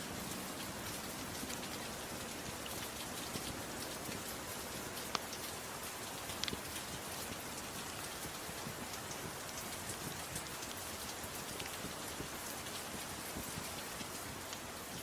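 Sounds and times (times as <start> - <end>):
gentle rain falling: 0.0 - 15.0
wood fire crackles: 0.1 - 15.0.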